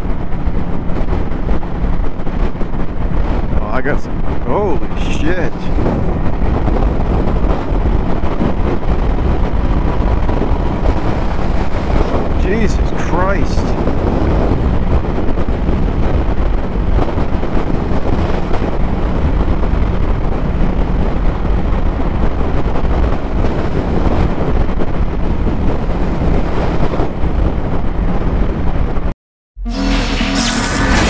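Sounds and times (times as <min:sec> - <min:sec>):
motorcycle engine drone: 0:00.0 - 0:31.0
wind rushing over microphone: 0:00.0 - 0:31.0.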